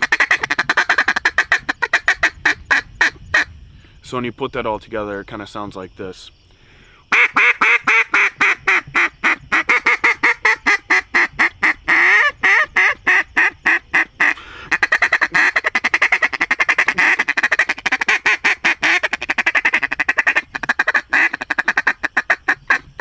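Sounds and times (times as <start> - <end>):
duck call fast chatter: 0.0 - 3.5, 7.1 - 23.0
duck call quacks: 0.0 - 3.5, 7.1 - 23.0.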